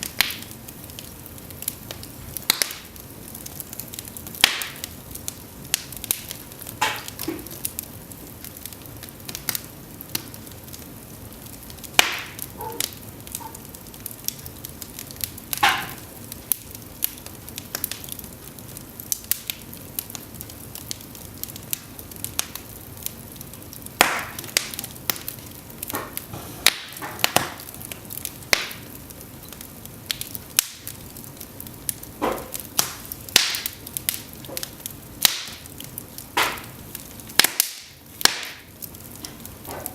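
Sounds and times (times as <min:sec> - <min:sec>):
logs crackling and popping in fire: 0:00.0 - 0:39.9.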